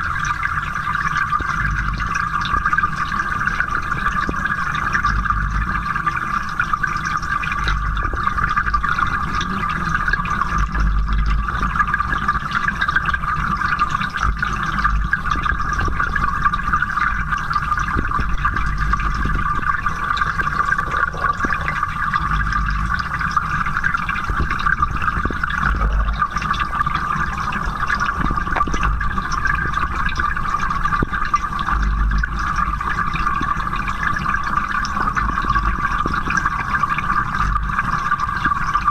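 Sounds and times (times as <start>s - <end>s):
low rumbles of moving water: 0.0s - 38.9s
muffled underwater noise: 0.2s - 38.9s.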